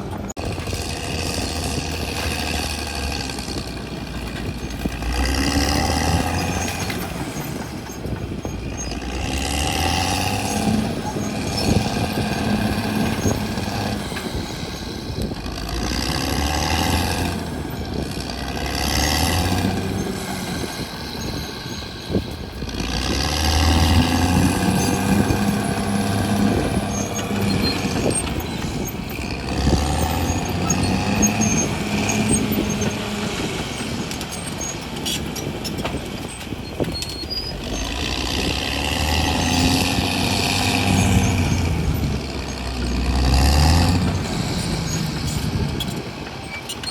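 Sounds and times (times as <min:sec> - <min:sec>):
bulldozer diesel engine working: 0:00.0 - 0:46.9.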